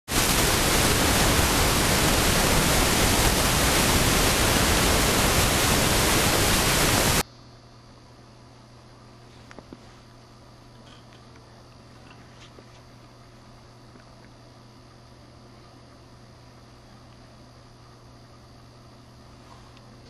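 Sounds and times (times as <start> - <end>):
white noise hiss: 0.0 - 20.0
faint low hum: 0.1 - 20.0.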